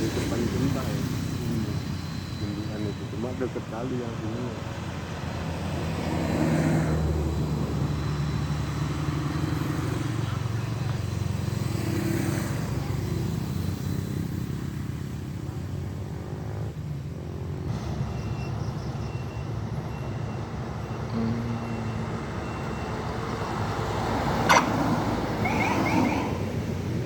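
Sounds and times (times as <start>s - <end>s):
truck diesel engine labouring: 0.0s - 27.0s.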